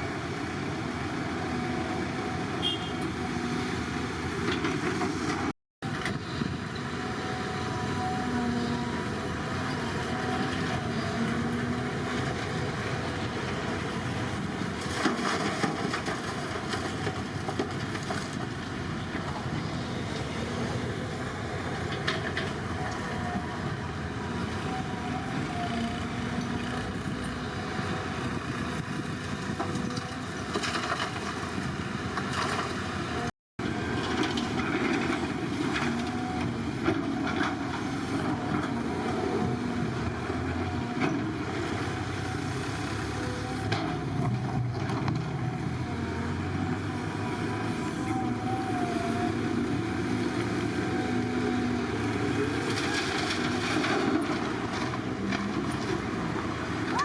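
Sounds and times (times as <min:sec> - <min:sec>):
heavy construction machinery running: 0:00.0 - 0:57.0.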